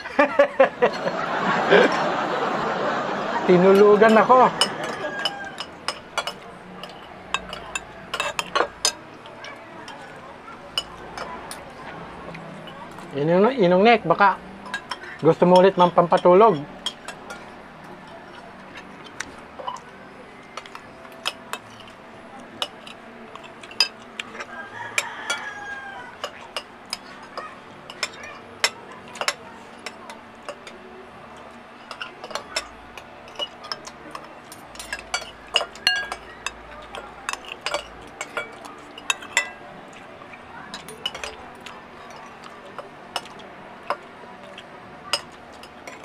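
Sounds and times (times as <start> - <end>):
cutlery clinking on plates: 3.7 - 11.7, 14.6 - 30.8, 31.4 - 46.0.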